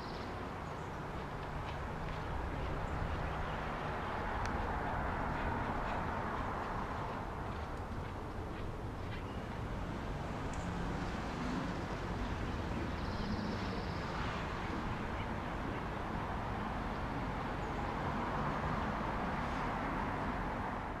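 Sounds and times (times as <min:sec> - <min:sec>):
distant traffic rumble: 0:00.0 - 0:21.0
open-air noise: 0:00.0 - 0:21.0.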